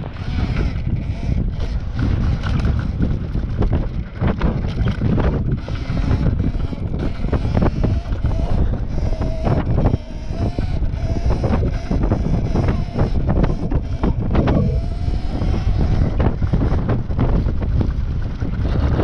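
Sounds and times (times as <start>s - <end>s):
faint wavering electric motor whine: 0.0s - 19.0s
wind buffeting microphone: 0.0s - 19.0s.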